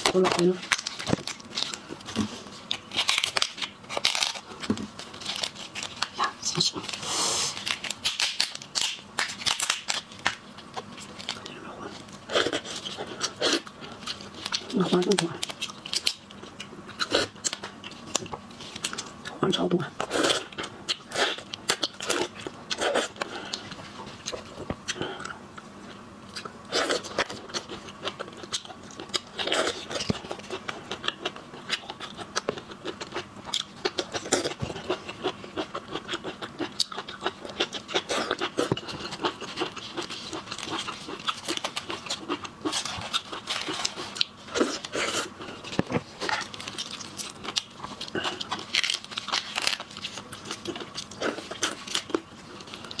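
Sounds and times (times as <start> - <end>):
wet chewing and crunching: 0.0 - 7.0, 7.6 - 19.3, 20.0 - 53.0.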